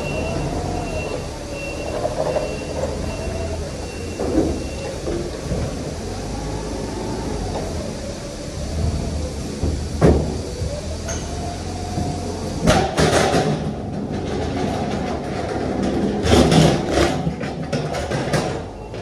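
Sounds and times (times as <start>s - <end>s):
pallet jack wheels rumbling: 0.0s - 19.0s.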